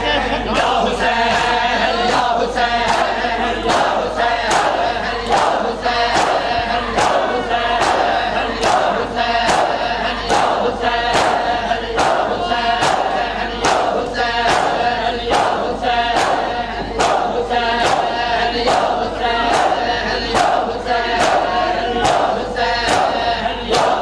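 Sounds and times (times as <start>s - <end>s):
men chanting in chorus: 0.0s - 24.0s
chest beating in unison: 1.4s - 24.0s.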